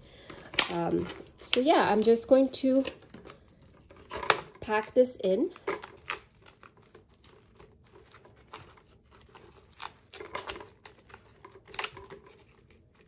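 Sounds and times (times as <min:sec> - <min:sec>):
thin plastic crinkling: 0:00.2 - 0:13.0.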